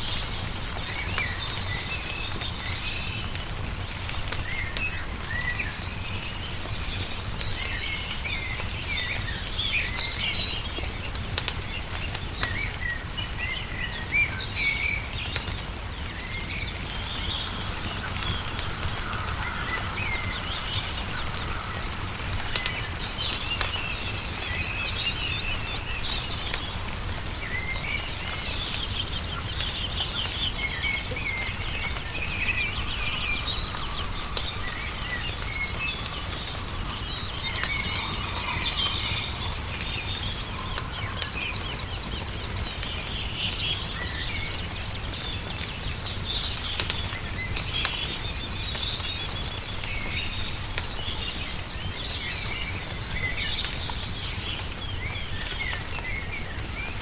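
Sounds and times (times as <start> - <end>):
songbirds chirping and twittering: 0.0 - 57.0
wood fire crackling: 0.0 - 57.0.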